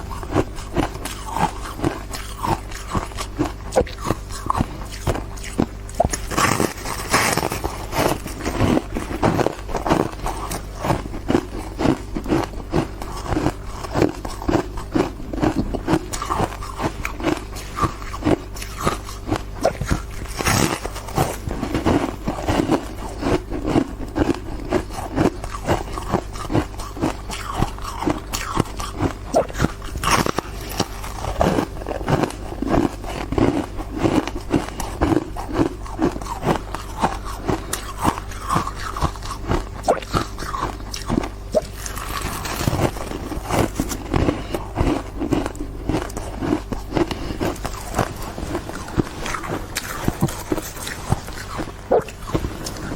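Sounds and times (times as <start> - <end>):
ice being crunched and chewed: 0.0 - 52.9.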